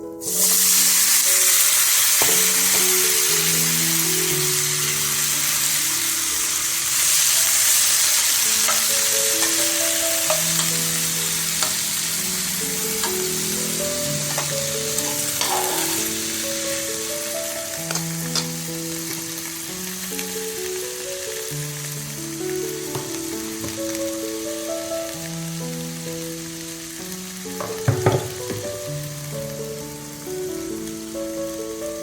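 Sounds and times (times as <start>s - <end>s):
background music: 0.0s - 32.0s
food sizzling in oil: 0.1s - 32.0s.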